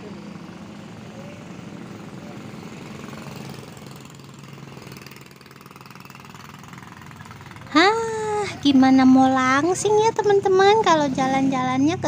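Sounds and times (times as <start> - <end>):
small engine humming: 0.0 - 12.0
street traffic: 0.0 - 12.0.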